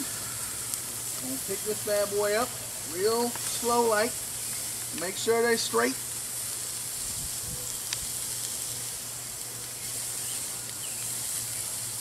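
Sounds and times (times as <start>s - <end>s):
steaks sizzling on grill: 0.0s - 12.0s.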